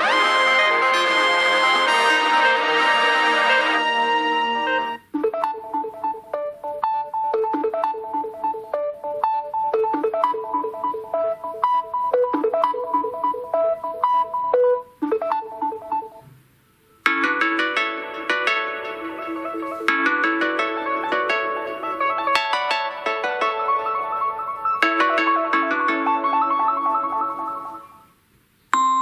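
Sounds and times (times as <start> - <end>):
bright ringtone: 0.0 - 16.2, 17.0 - 28.1
synthesized ringtone melody: 0.0 - 16.3, 17.0 - 28.1.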